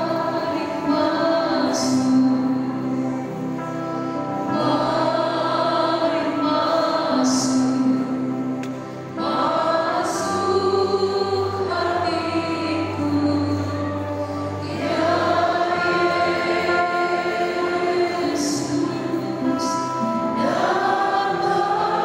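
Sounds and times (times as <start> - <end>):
church choir singing: 0.0 - 22.0.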